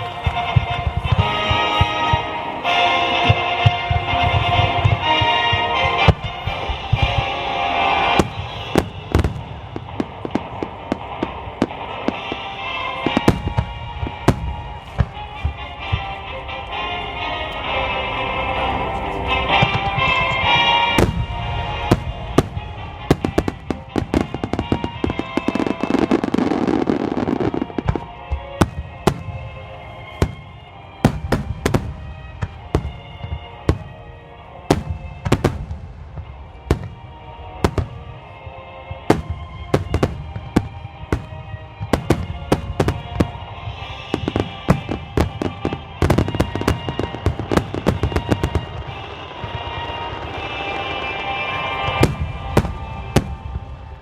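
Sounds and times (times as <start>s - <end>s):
fireworks bursting with sharp bangs: 0.0s - 54.0s
music playing: 0.0s - 54.0s.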